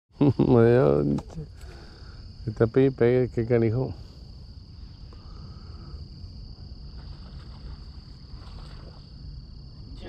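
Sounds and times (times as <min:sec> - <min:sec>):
crickets chirring: 0:00.1 - 0:10.0.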